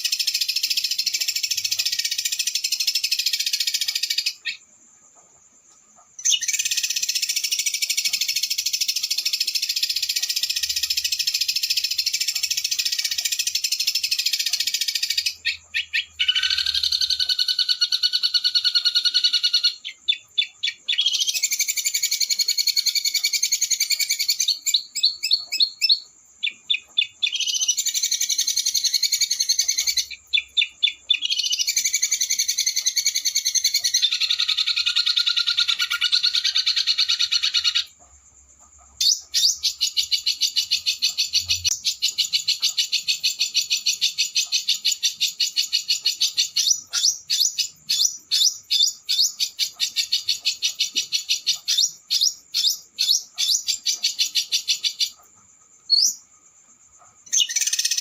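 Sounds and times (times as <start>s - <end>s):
small songbird trilling: 6.2s - 38.0s, 39.0s - 55.2s, 57.2s - 58.0s.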